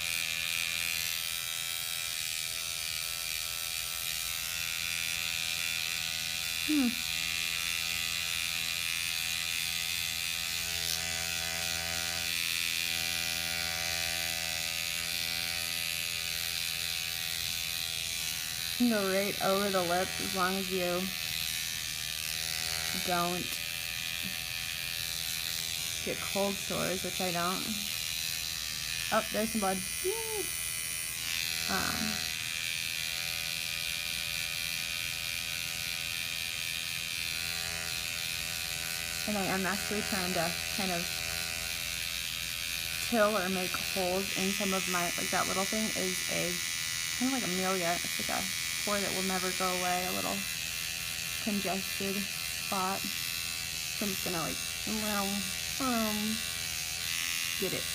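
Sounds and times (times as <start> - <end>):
microneedling pen buzzing: 0.0 - 57.9.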